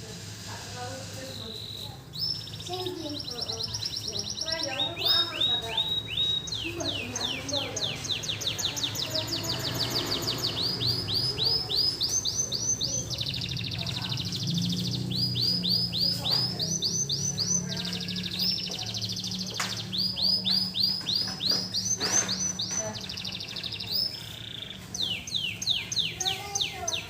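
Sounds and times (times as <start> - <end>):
canary singing trills: 0.1 - 27.0.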